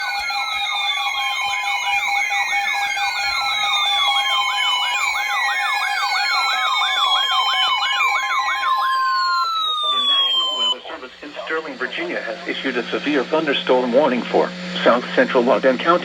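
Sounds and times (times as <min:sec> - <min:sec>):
fast yelping siren: 0:00.0 - 0:16.0
slower falling siren wails: 0:00.0 - 0:16.0
steady siren tone: 0:00.0 - 0:16.0.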